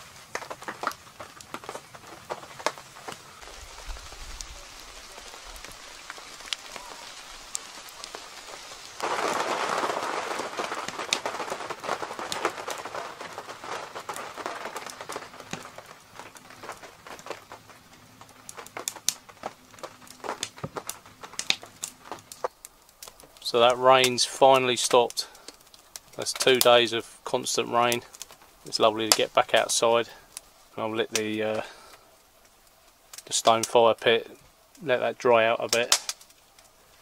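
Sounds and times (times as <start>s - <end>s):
rain on a canvas tent: 0.0s - 37.0s
raindrop ticks: 0.0s - 37.0s.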